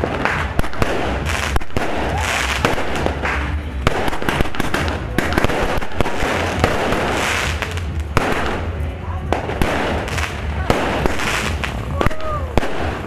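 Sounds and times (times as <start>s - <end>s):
fireworks bangs and pops: 0.0s - 13.0s
fireworks hissing: 0.0s - 13.0s.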